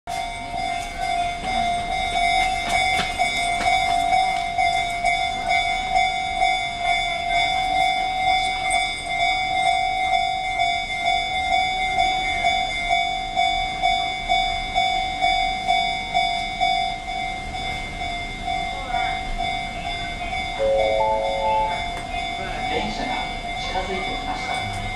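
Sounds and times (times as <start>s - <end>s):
level crossing warning bell: 0.1s - 24.9s.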